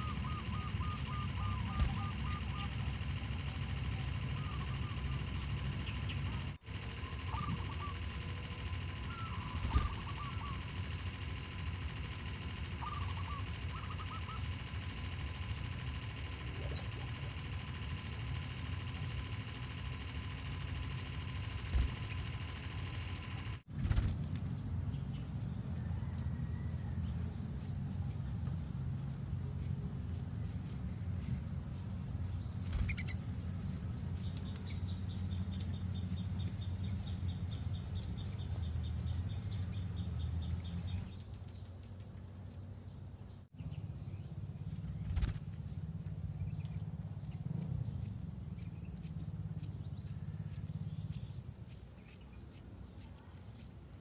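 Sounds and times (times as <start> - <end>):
nestlings chirping: 0.0 - 54.0.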